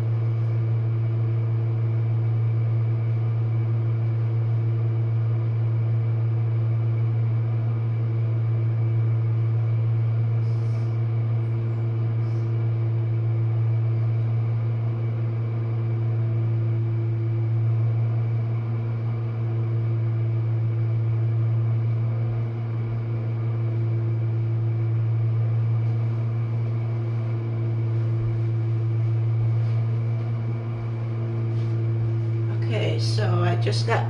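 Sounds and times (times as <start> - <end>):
dishwasher motor hum: 0.0 - 34.0.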